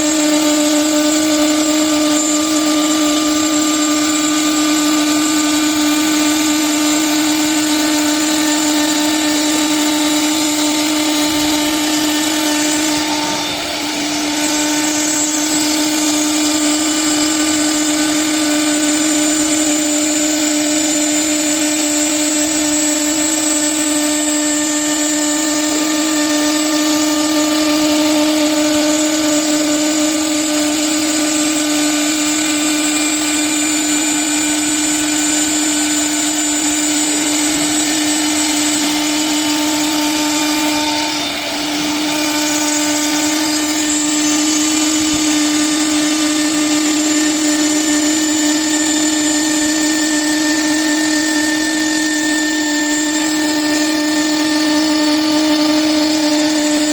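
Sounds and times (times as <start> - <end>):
saw motor hum with whine: 0.0 - 56.9.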